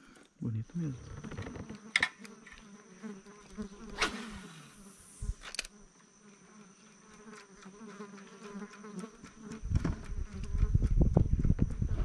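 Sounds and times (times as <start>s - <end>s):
flying insect buzzing: 0.8s - 12.0s.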